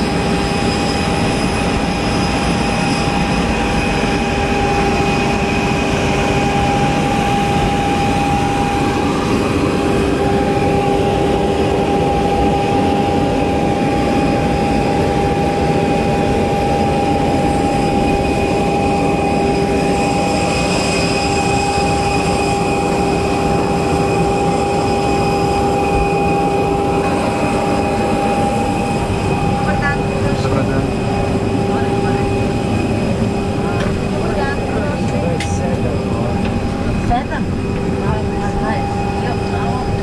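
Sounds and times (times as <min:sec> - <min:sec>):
constant hum: 0:00.0 - 0:40.0.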